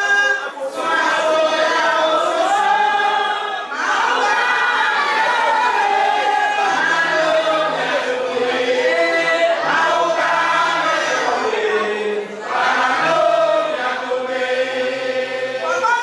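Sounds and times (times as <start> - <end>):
group of voices chanting: 0.0 - 16.0.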